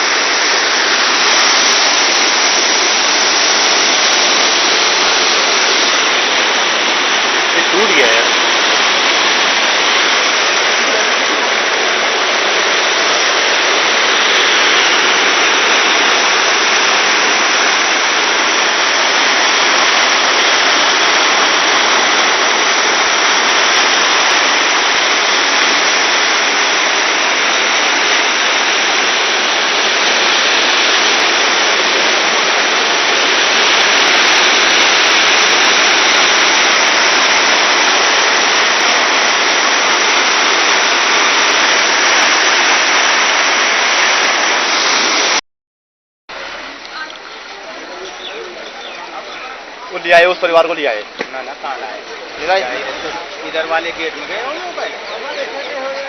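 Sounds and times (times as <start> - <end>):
floodwater rushing: 0.0 - 45.4, 46.3 - 56.0.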